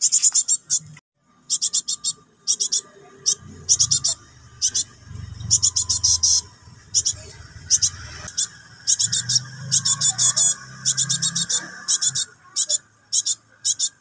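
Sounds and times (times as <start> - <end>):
fledgling begging chatter: 0.7 - 14.0.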